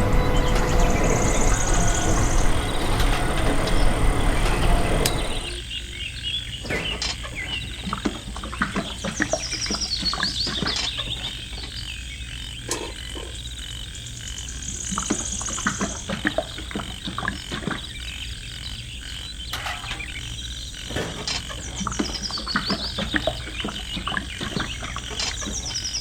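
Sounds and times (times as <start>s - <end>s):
birds chirping: 0.0s - 26.0s
steady low hum: 0.0s - 26.0s.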